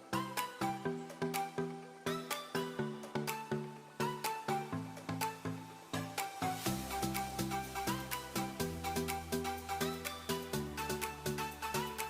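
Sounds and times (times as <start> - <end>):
rhythmic struck pitched notes: 2.2 - 12.0.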